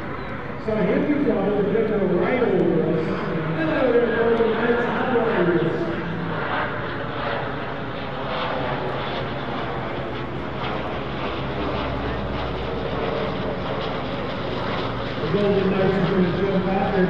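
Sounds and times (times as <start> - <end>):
turboprop aircraft droning overhead: 0.0 - 17.0.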